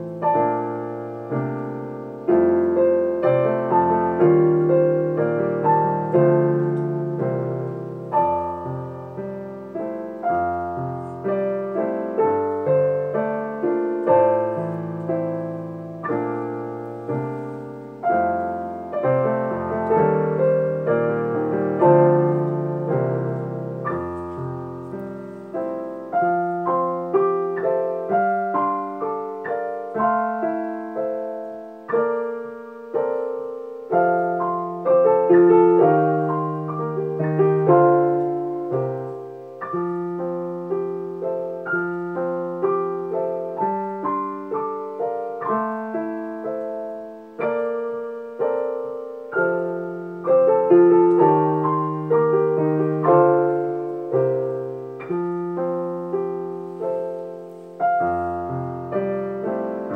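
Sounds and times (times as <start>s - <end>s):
piano duet: 0.0s - 59.9s.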